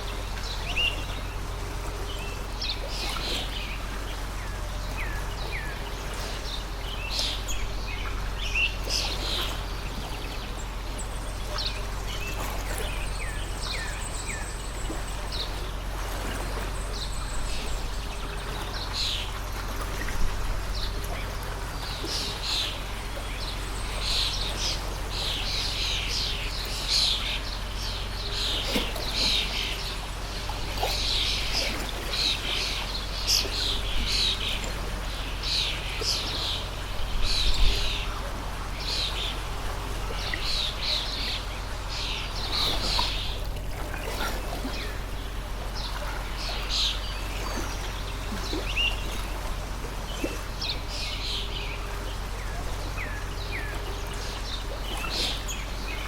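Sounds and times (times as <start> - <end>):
small birds chirping: 0.0 - 56.0
stream trickling: 0.0 - 56.0.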